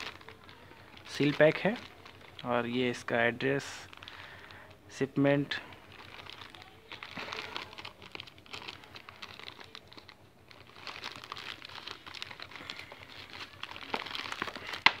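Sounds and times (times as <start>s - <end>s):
plastic mailer crinkling: 0.0s - 15.0s.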